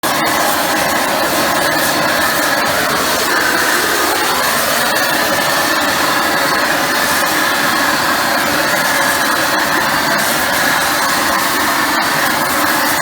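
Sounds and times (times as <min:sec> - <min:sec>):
pressure washer spraying hiss: 0:00.0 - 0:13.0.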